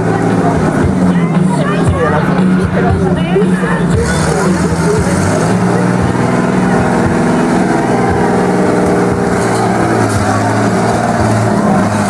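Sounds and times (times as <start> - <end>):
monster truck engine running loud: 0.0 - 12.0.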